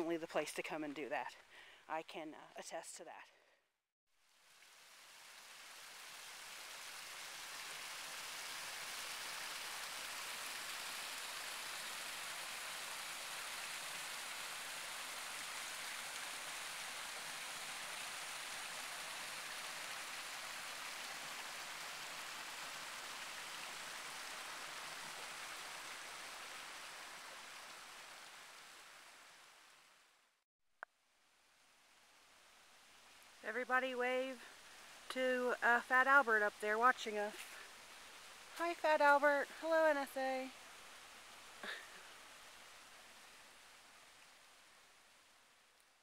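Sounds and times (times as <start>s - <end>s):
creek water flowing: 4.2s - 30.3s, 31.4s - 33.5s, 34.2s - 46.0s.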